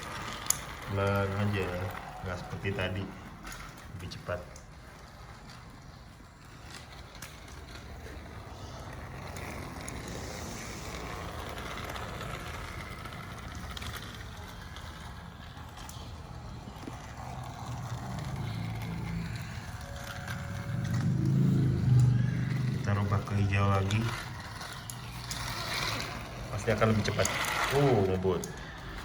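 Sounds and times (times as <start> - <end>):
toy train motor whirring: 0.0 - 29.0
wheels rattling on plastic track: 0.0 - 29.0.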